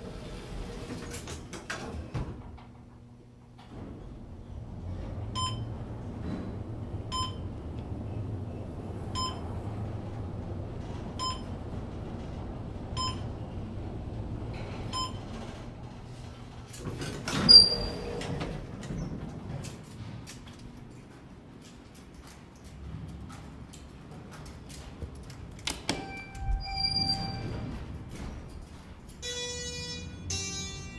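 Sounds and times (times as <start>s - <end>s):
elevator humming: 0.0s - 30.9s
elevator stopping with clatter: 0.0s - 30.9s.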